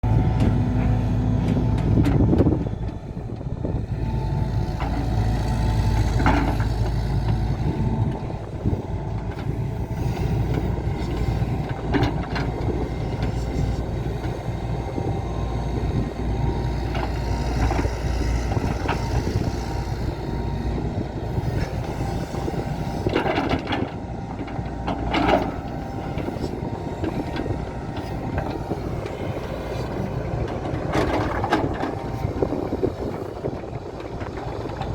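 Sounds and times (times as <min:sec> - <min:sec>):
excavator diesel engine droning: 0:00.0 - 0:34.9.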